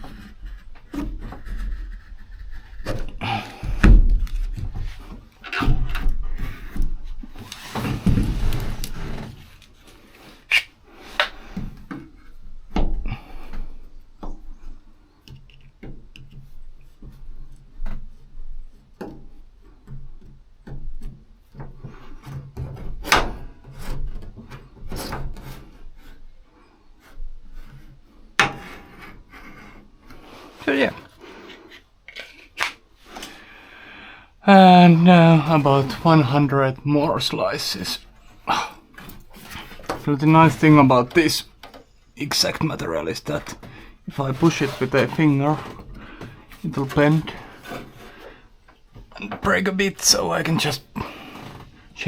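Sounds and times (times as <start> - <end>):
rubbing and scraping: 0.0 - 12.7, 15.8 - 33.8, 34.5 - 52.0.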